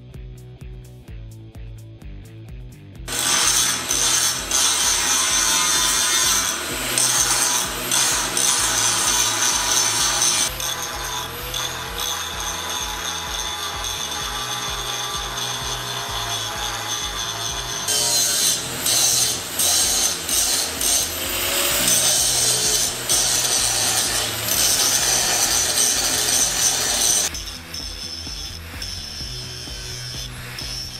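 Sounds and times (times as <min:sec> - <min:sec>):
angle grinder grinding steel: 0:03.1 - 0:30.9.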